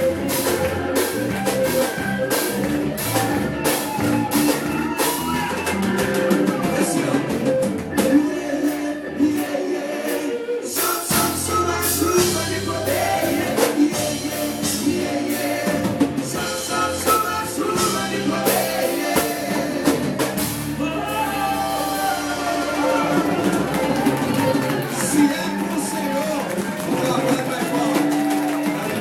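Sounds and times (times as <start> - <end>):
drum kit: 0.0 - 29.0
gospel band with singing: 0.0 - 29.0.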